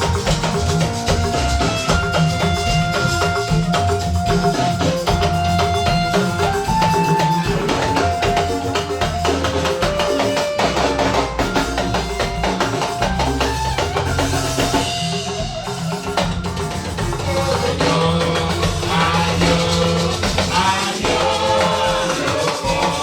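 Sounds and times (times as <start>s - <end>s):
drums and tambourine beat: 0.0s - 23.0s
instrumental church band music: 0.0s - 23.0s.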